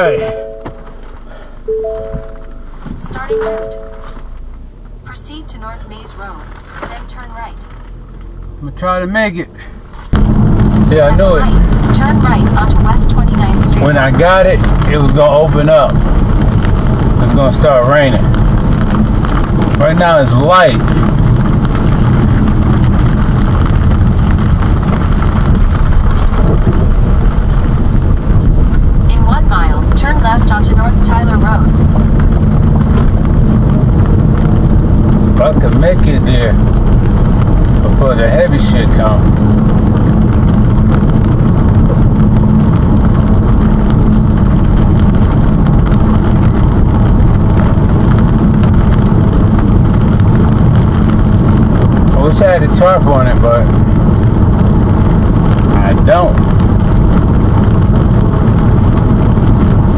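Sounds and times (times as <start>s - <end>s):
constant hum: 0.0s - 59.9s
vehicle engine and road noise: 0.0s - 59.9s.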